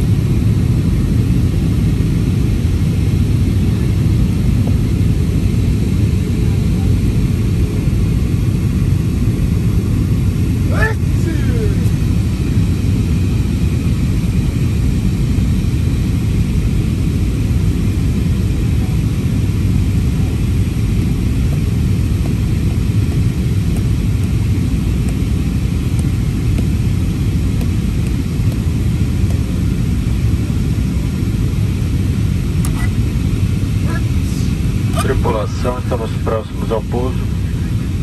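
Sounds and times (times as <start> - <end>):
airliner cabin engine roar: 0.0 - 38.0.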